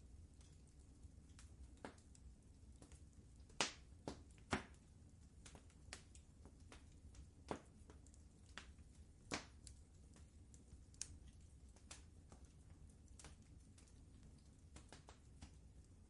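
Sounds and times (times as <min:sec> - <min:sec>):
low steady background: 0:00.0 - 0:16.0
wood fire crackling: 0:00.0 - 0:16.0.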